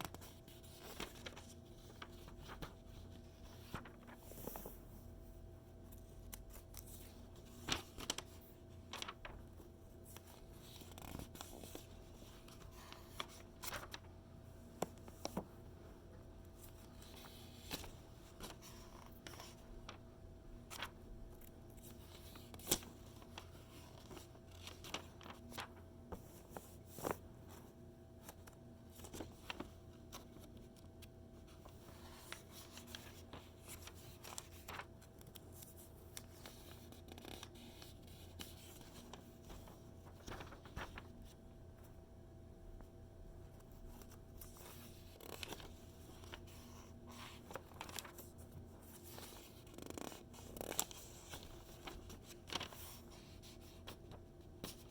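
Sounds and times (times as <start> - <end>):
page flipping crackle: 0.0 - 5.0, 5.8 - 15.6, 16.2 - 41.4, 43.5 - 54.9
magazine pages rustling: 0.0 - 41.4, 43.6 - 54.9.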